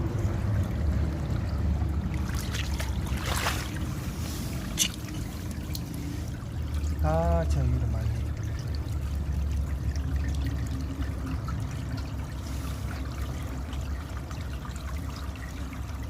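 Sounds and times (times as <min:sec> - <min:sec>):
water running and trickling: 0:00.0 - 0:16.0.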